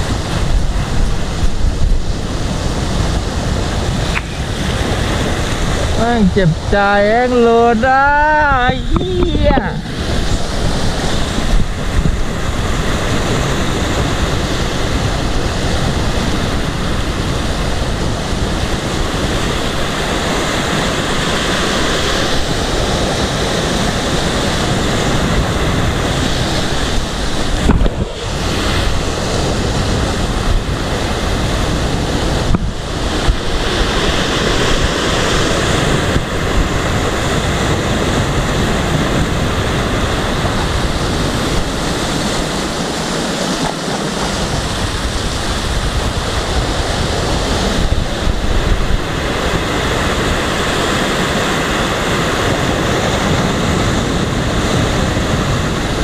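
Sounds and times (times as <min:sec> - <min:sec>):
waves breaking on rocky shore: 0:00.0 - 0:56.0
wind buffeting microphone: 0:00.0 - 0:56.0.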